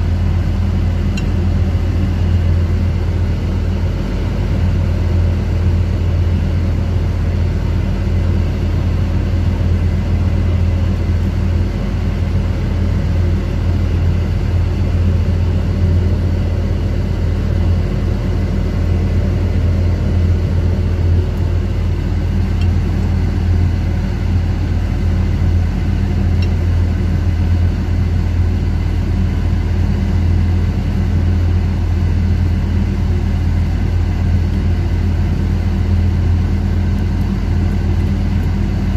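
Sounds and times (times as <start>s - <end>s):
machinery low drone: 0.0s - 38.9s.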